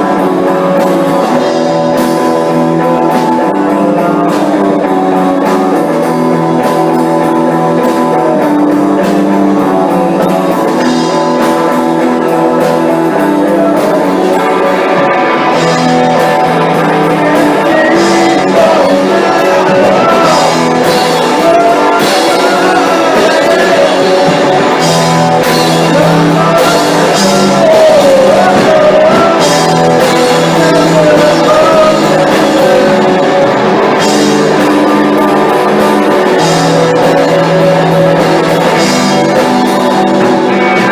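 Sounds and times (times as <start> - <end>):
person singing: 0.0 - 40.9
rock band playing: 0.0 - 40.9.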